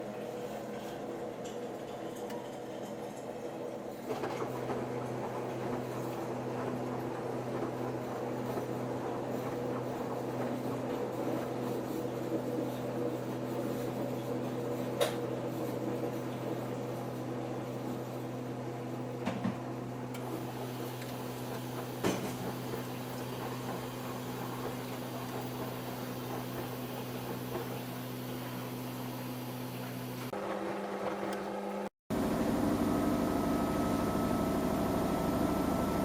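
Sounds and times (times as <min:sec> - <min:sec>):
washing machine motor hum: 0:00.0 - 0:36.0.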